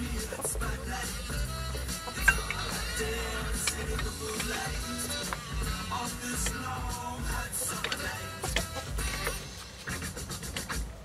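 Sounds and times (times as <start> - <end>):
music with heavy bass and beat: 0.0 - 11.0.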